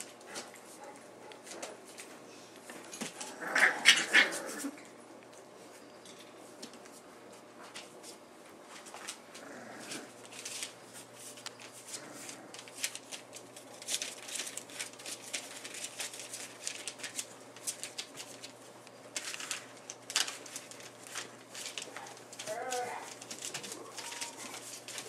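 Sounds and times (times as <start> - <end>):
puppy paws scratching on fabric: 0.0 - 25.0.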